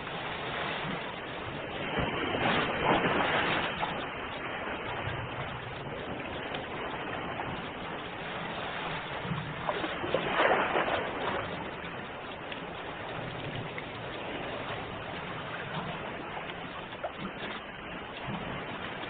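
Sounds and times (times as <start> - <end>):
ocean waves washing: 0.0 - 19.0
wave breaking and fizzing: 2.0 - 19.0.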